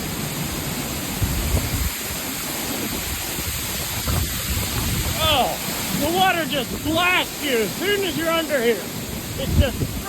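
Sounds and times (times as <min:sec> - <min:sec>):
waterfall rushing: 0:00.0 - 0:10.0
wind buffeting microphone: 0:00.3 - 0:07.4, 0:08.9 - 0:10.0.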